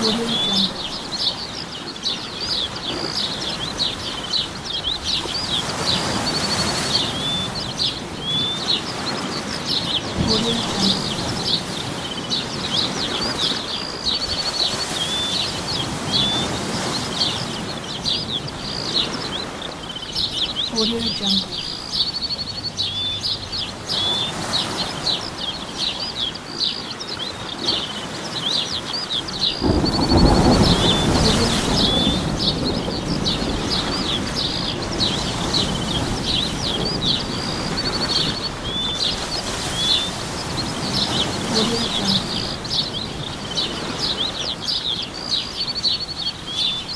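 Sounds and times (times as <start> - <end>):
small birds chirping and trilling: 0.0 - 46.9.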